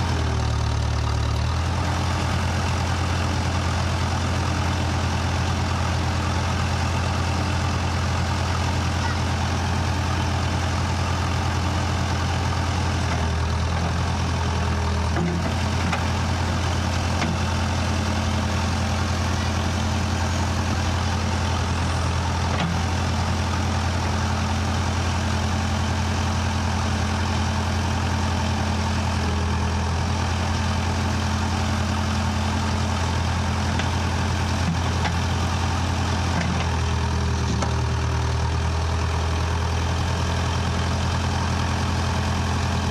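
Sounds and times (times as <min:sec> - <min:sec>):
backhoe engine running: 0:00.0 - 0:42.9.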